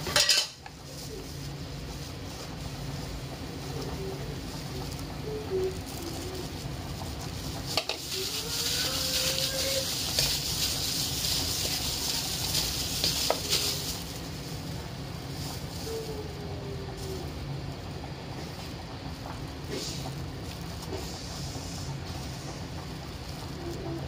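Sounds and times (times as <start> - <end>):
hand mixing chicken in metal bowl: 0.0 - 24.0.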